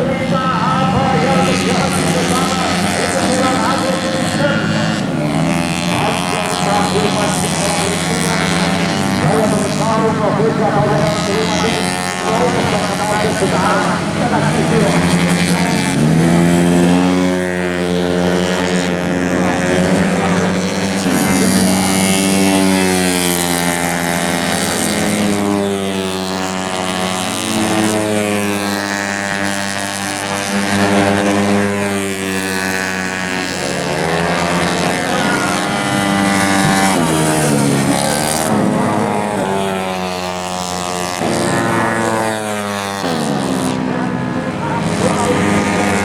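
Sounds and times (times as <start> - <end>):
scooter engines racing: 0.0 - 46.0.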